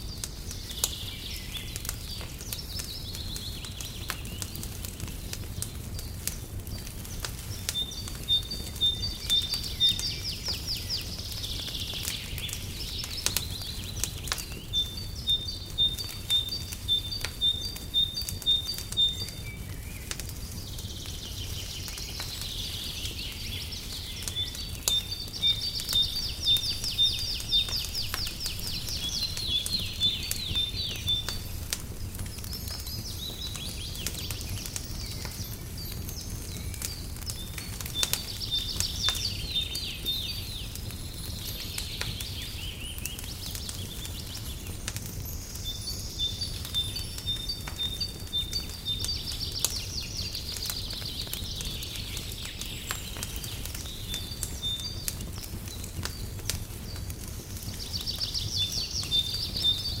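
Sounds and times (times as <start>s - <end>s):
songbirds chirping: 0.0s - 60.0s
wood fire crackling: 0.0s - 60.0s.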